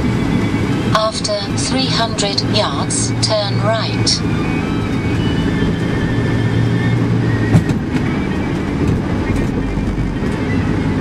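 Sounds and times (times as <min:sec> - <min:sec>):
car engine and road noise: 0:00.0 - 0:11.0
steady low hum: 0:00.0 - 0:11.0.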